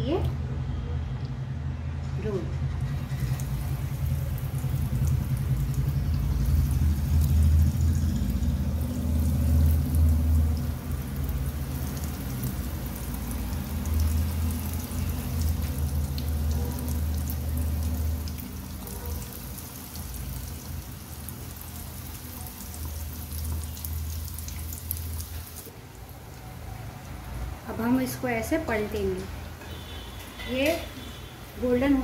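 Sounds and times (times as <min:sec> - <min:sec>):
food deep-frying in oil: 0:02.8 - 0:32.0.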